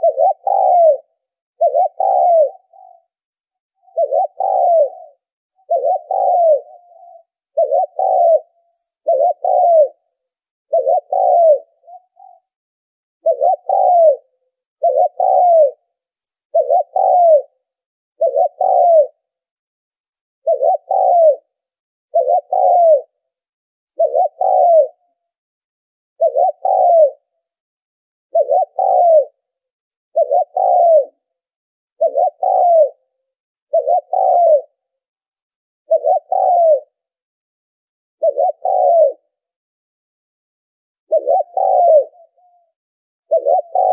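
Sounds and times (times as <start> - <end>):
dove cooing: 0.0 - 12.6, 13.2 - 19.4, 20.4 - 23.2, 23.9 - 25.4, 26.2 - 27.6, 28.3 - 31.3, 32.0 - 35.0, 35.9 - 37.2, 38.2 - 39.6, 41.1 - 43.9.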